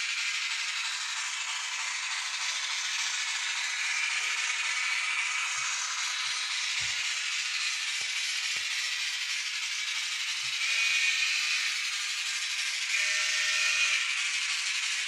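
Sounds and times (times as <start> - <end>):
model train steam sound: 0.0 - 15.0.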